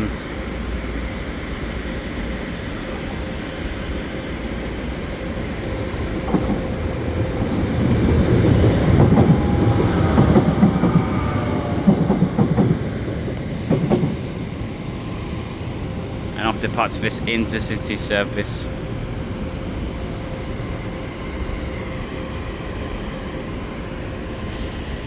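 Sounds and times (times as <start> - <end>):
faint whine: 0.0 - 25.0
passenger train rumbling: 0.0 - 25.0.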